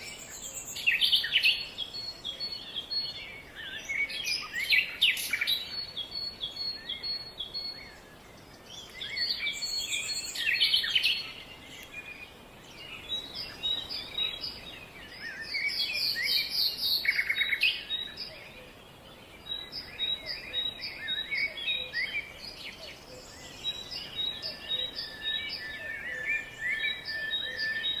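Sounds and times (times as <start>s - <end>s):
birds chirping and trilling: 0.0s - 28.0s.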